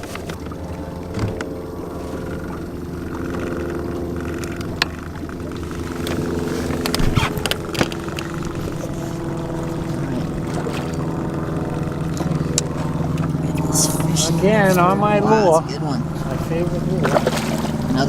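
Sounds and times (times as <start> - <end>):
small boat motor running: 0.0 - 18.0.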